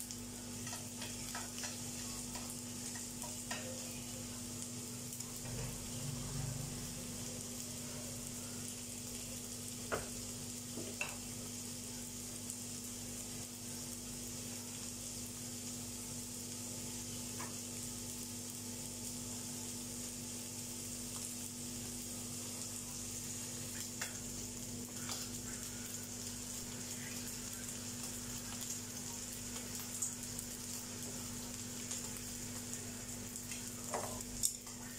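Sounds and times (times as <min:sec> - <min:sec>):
rice sizzling in oil: 0:00.0 - 0:34.9.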